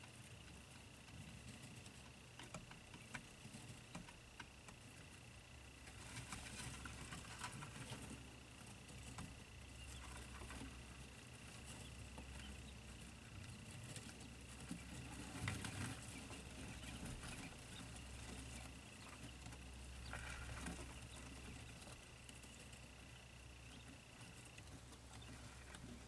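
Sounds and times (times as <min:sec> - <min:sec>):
chicks pattering and scratching: 0:00.0 - 0:26.0
steady low hum: 0:00.0 - 0:26.0.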